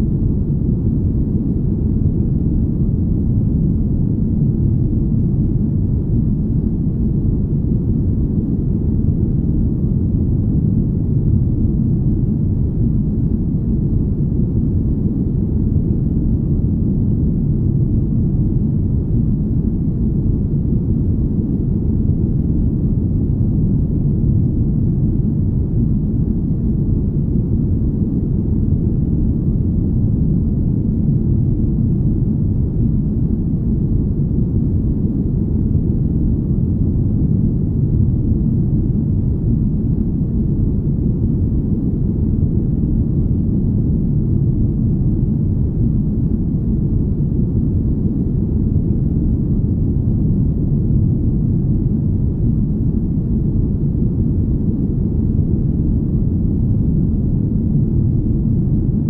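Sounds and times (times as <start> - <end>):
deep smooth ambient rumble: 0.0 - 59.0.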